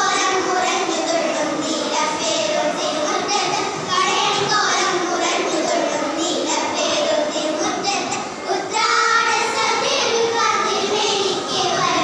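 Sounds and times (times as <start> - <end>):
girls singing in unison: 0.0 - 12.0.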